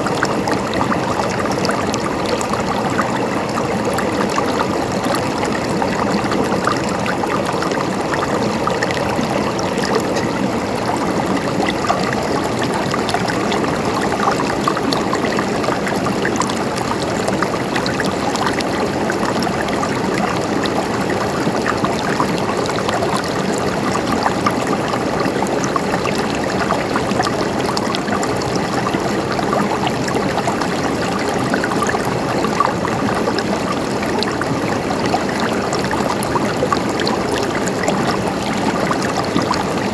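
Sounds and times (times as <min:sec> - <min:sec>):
flowing water gurgling: 0:00.0 - 0:39.9.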